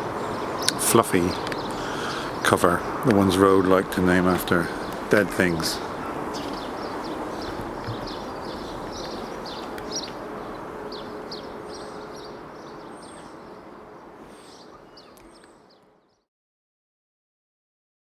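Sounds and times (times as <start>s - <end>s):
steady rushing noise: 0.0s - 15.7s
small birds chirping: 0.0s - 16.3s.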